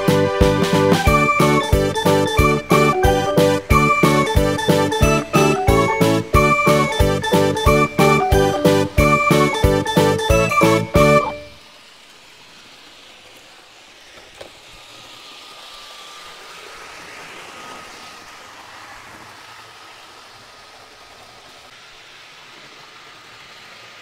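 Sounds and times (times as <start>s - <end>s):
faint motor whine: 0.0s - 24.0s
model train whirring: 0.0s - 24.0s.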